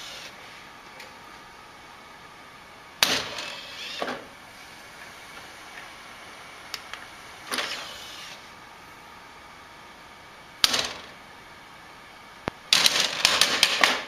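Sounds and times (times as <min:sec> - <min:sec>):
dvd drive tray whirring: 0:00.0 - 0:14.0.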